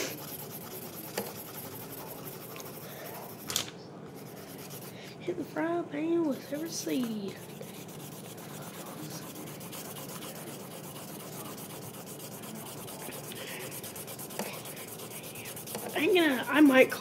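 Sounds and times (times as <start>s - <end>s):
marker scribbling on paper: 0.0s - 3.5s, 4.1s - 5.1s, 6.1s - 17.0s.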